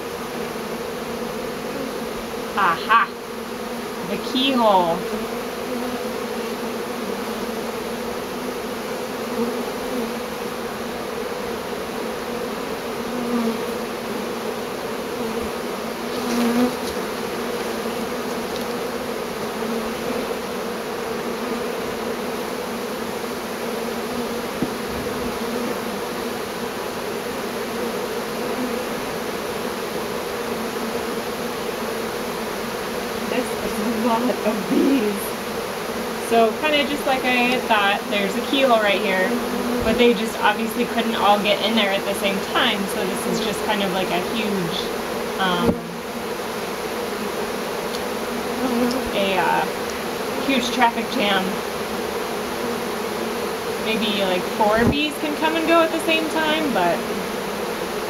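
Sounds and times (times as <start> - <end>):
honeybee swarm buzzing: 0.0 - 58.0.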